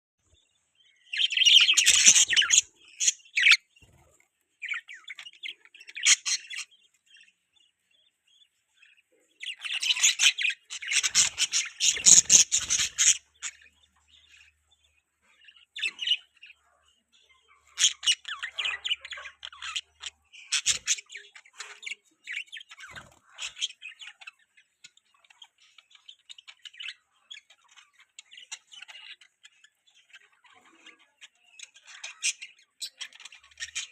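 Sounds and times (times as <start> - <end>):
budgerigars chirping: 0.3 - 33.9.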